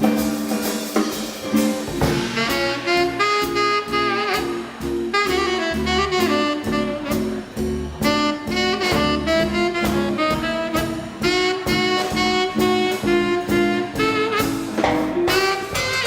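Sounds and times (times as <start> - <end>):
drum kit steady beat: 0.0 - 16.0
saxophone and brass melody: 0.0 - 16.0
swing band playing: 0.0 - 16.0
upright bass: 0.0 - 16.0.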